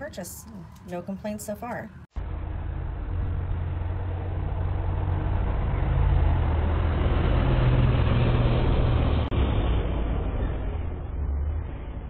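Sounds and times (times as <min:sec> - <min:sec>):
vehicle engine rumbling: 0:02.0 - 0:12.0.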